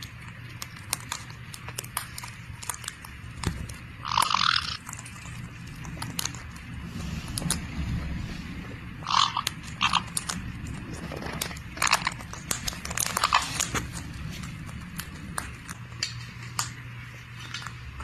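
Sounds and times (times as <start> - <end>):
parrots chewing with crunching clicks: 0.0 - 18.0.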